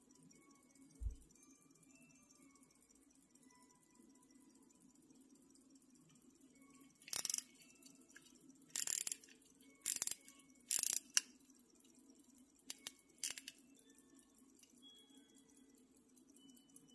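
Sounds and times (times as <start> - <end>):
pocket watch ratchet clicking: 2.3 - 16.9.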